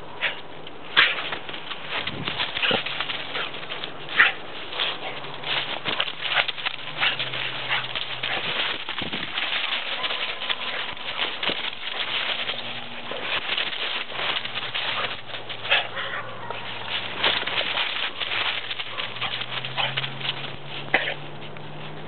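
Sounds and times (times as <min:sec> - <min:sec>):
dry leaves rustling and crunching: 0:00.8 - 0:22.0.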